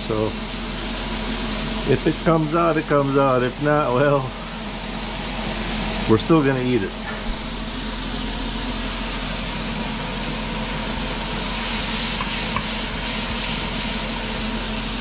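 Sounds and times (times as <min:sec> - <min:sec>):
onions frying in hot oil: 0:00.0 - 0:15.0
steady low hum: 0:00.0 - 0:15.0.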